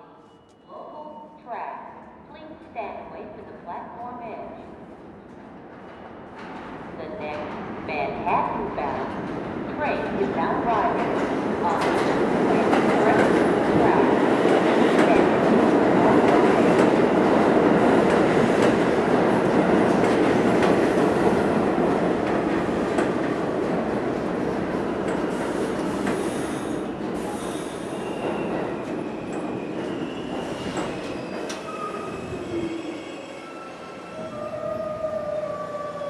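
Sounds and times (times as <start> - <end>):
train wheels rumbling on rails: 5.2 - 34.5.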